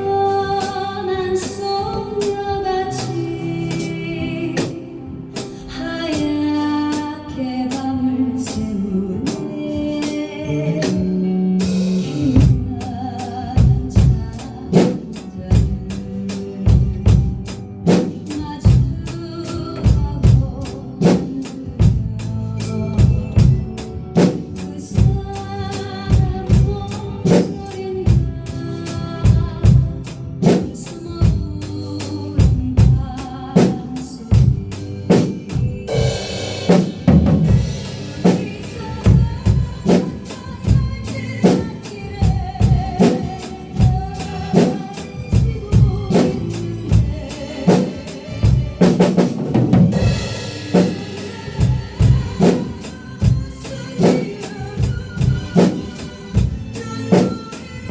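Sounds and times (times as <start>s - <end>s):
recorded song with singing: 0.0s - 57.9s
drum kit beat: 0.6s - 7.1s, 9.2s - 57.9s.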